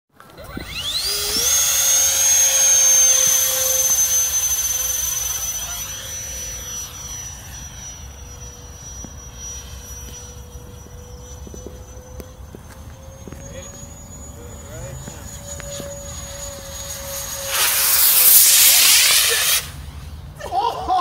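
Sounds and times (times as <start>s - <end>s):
electric ducted fan whining: 0.2s - 21.0s.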